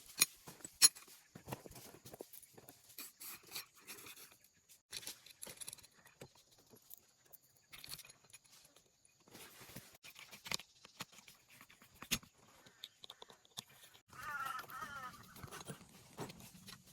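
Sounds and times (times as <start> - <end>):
tools clicking and scraping: 0.0 - 14.1.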